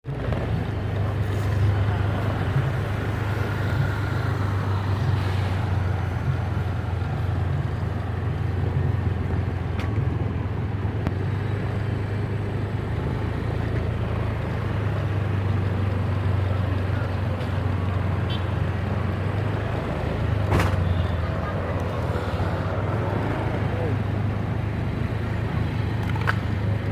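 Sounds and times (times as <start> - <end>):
diesel bus engine running: 0.0 - 26.9.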